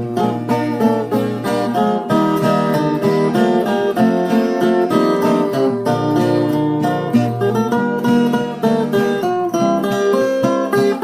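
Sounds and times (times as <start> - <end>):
picked string instrument melody: 0.0 - 11.0.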